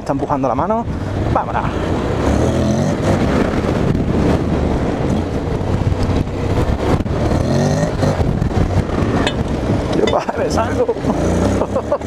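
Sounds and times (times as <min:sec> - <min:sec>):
steady rushing noise: 0:00.0 - 0:12.0
motorcycle engine pulling hard: 0:00.9 - 0:12.0.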